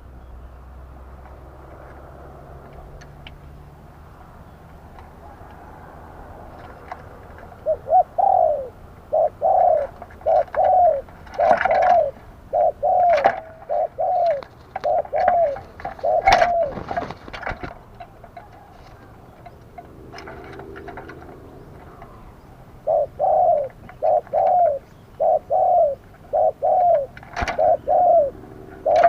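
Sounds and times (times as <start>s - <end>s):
dove cooing: 5.1s - 29.0s.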